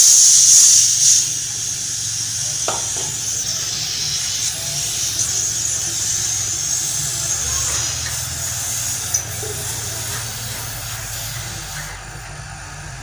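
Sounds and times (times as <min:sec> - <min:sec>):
air hissing from hose: 0:00.0 - 0:13.0
pump motor humming: 0:01.4 - 0:13.0.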